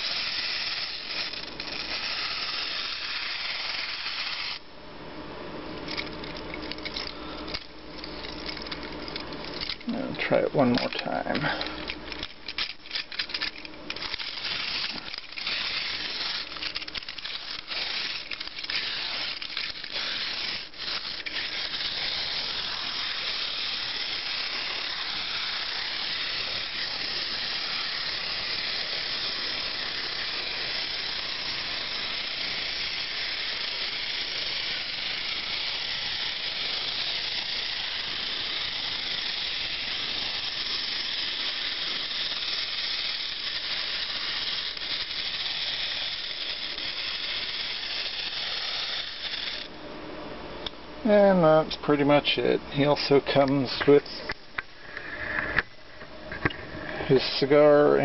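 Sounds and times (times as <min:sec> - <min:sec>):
clockwork motor whirring: 0:00.0 - 0:04.6, 0:05.9 - 0:49.7.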